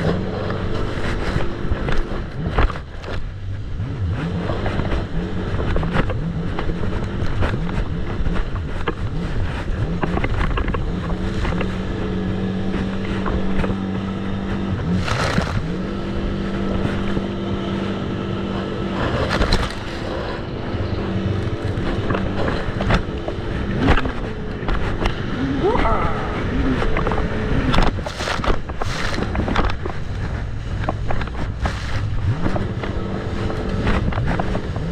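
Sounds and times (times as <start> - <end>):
dense rushing noise: 0.0 - 34.9
jet ski engine running: 0.0 - 34.9.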